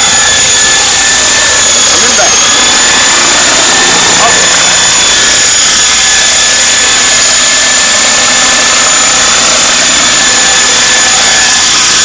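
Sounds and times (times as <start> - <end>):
model helicopter rotor whine: 0.0 - 12.0.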